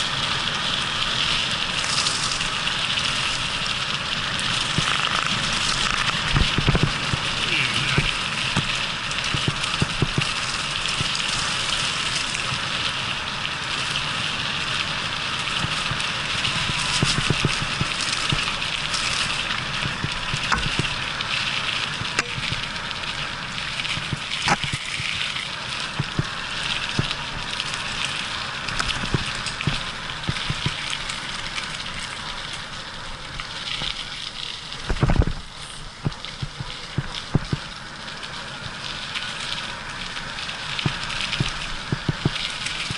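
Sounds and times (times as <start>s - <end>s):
bike tyres on rough trail: 0.0s - 42.9s.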